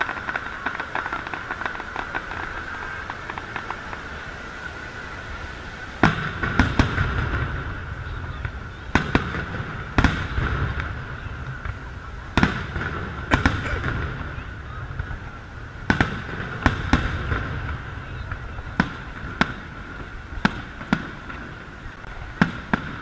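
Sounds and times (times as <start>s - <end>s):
fireworks bursting with bangs: 0.0s - 23.0s.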